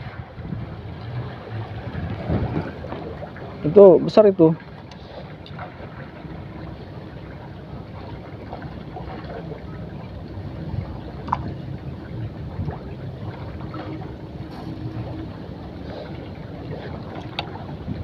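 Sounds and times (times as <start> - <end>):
wind rumble on microphone: 0.0 - 4.2, 5.3 - 18.0
water lapping: 0.0 - 18.0.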